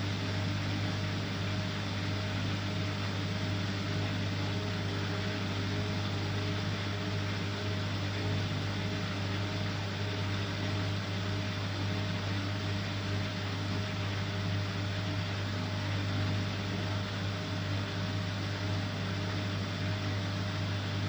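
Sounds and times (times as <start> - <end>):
washing machine humming and whirring: 0.0 - 21.0.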